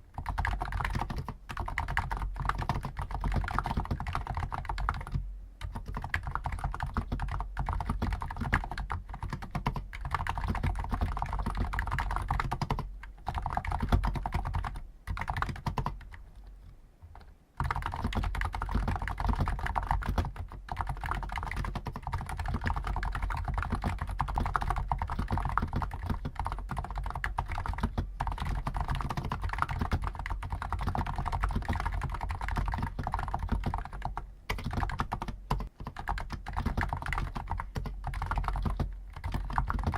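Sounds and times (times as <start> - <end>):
fast keyboard typing: 0.2 - 16.2, 17.2 - 39.9.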